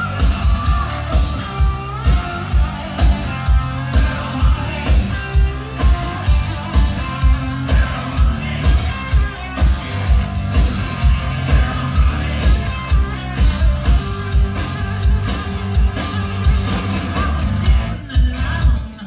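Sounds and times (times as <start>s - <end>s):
hard rock band playing: 0.0s - 19.0s
lead singer: 0.0s - 19.0s.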